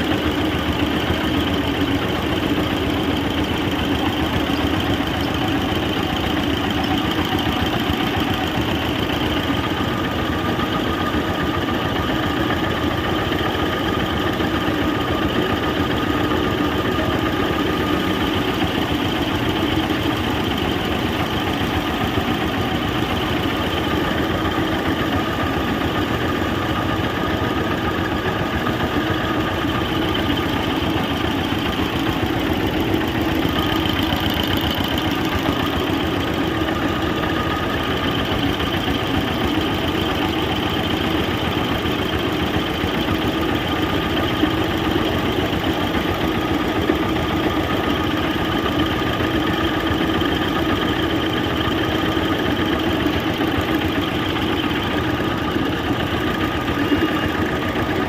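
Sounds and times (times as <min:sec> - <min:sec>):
pump engine running: 0:00.0 - 0:58.0.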